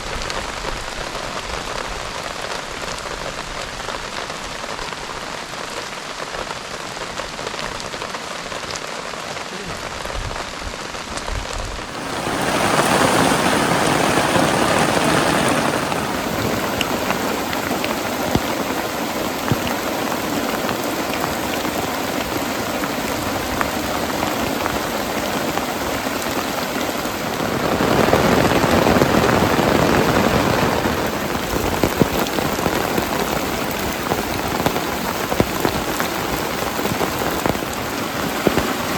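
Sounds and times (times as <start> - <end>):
heavy rain on a tarp: 0.0 - 38.9.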